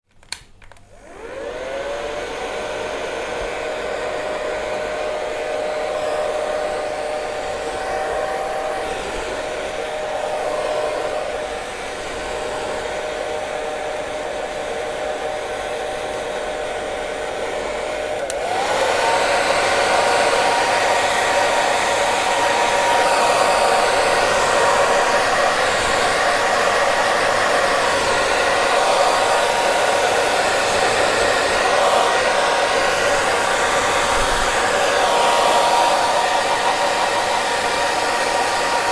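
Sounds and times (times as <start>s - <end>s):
hair dryer running: 0.3s - 38.9s.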